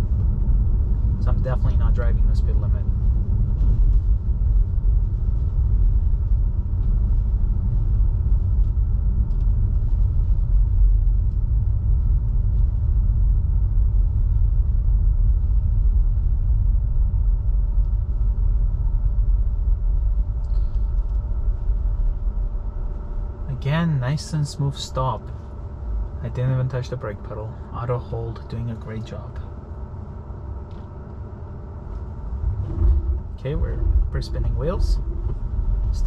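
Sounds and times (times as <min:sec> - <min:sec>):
faint steady hum: 0:00.0 - 0:36.0
road rumble on snow: 0:00.0 - 0:36.0.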